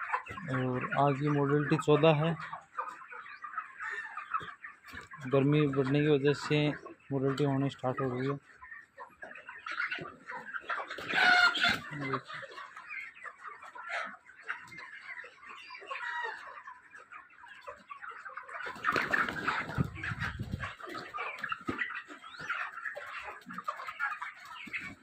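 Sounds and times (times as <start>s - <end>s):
chickens chirping and clucking: 0.0s - 25.0s.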